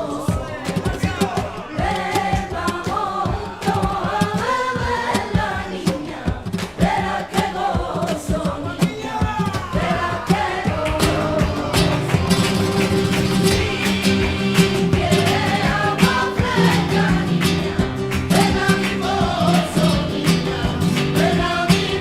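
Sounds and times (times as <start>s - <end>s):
group of voices singing a carol: 0.0s - 22.0s
sharp rhythmic beat: 0.0s - 22.0s.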